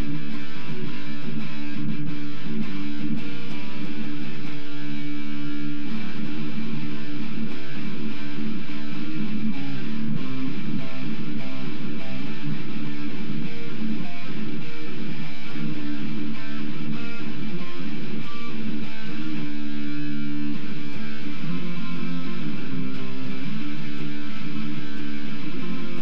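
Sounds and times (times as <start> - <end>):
electric guitar riff: 0.0 - 26.0.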